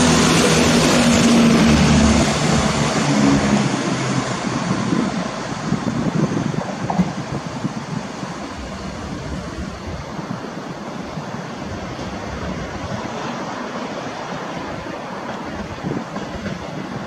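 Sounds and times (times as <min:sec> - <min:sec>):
train rumbling: 0:00.0 - 0:17.0
wind on microphone: 0:00.1 - 0:13.7, 0:14.6 - 0:17.0.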